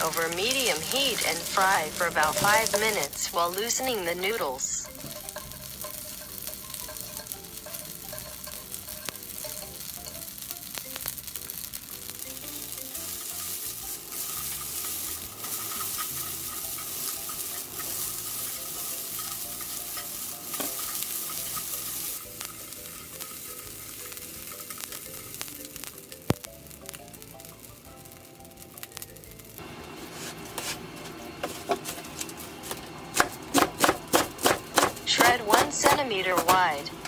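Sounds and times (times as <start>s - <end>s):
noodles sizzling in a frying pan: 0.0s - 37.0s.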